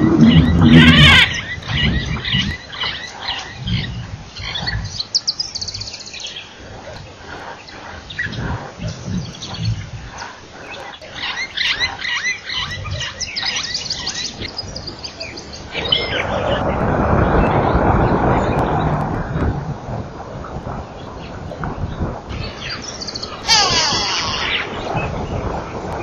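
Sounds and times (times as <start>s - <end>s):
birds chirping: 0.0s - 19.4s, 20.9s - 26.0s
rhinoceros making low sounds: 0.0s - 19.6s, 20.4s - 26.0s.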